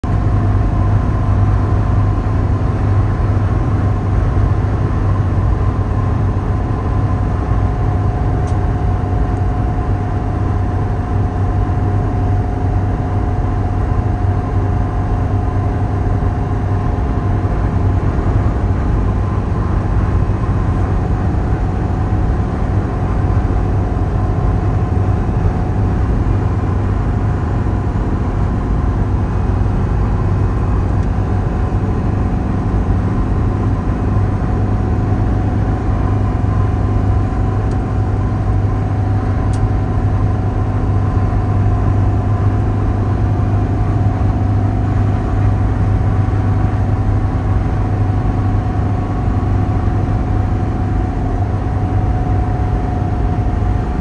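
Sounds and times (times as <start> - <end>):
car engine and road noise drone: 0.0 - 54.0.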